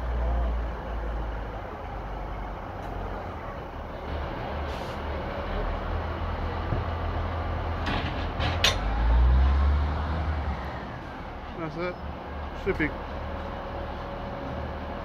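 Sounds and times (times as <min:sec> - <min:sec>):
diesel train engine rumble: 0:00.0 - 0:15.0.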